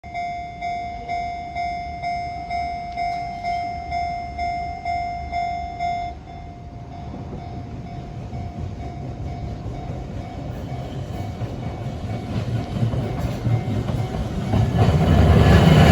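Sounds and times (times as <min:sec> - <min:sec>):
level-crossing alarm ringing: 0:00.1 - 0:15.9.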